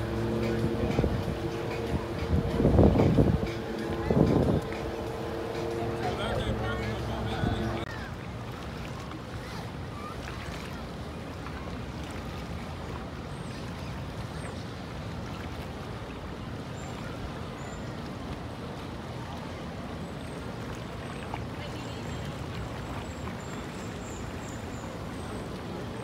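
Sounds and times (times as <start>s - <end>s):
boat engine hum: 0.0s - 26.0s
water washing: 0.0s - 26.0s.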